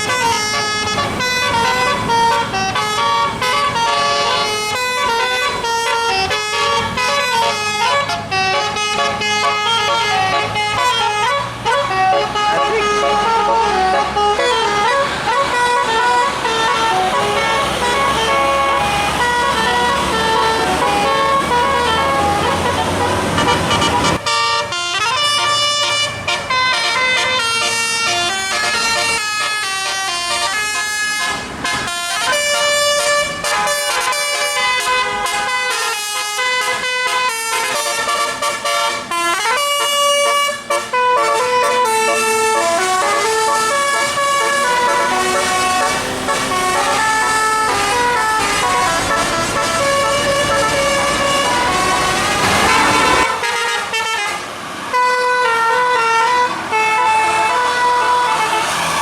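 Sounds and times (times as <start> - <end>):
bus musical air horn tune: 0.0 - 59.0
engine rumble: 0.0 - 59.0
traffic noise: 0.0 - 59.0.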